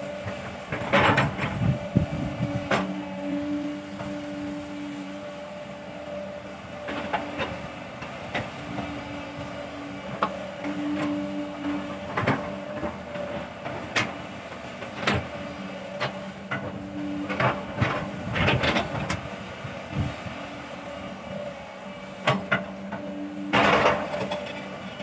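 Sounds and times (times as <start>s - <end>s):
excavator engine and hydraulics: 0.0s - 25.0s.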